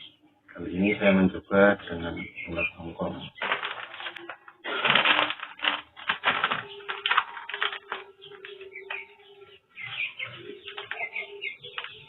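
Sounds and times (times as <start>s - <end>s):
rattling of feed and containers: 2.2s - 12.0s.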